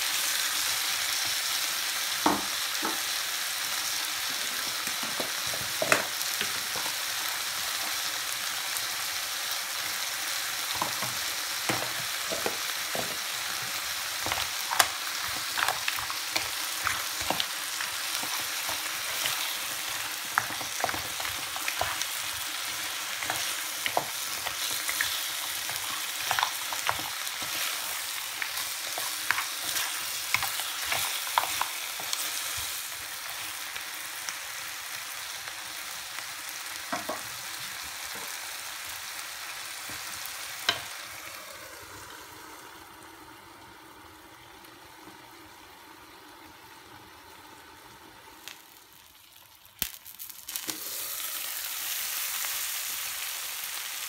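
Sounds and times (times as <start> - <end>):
mussels and vegetables sizzling in pan: 0.0 - 54.0.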